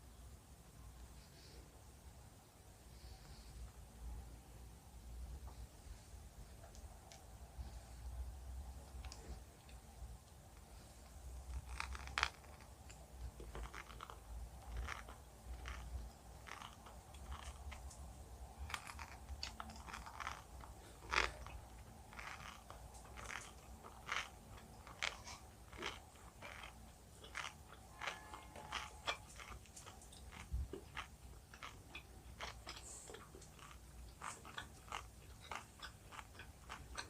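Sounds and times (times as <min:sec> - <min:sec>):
person chewing sweets: 0:05.4 - 0:37.0.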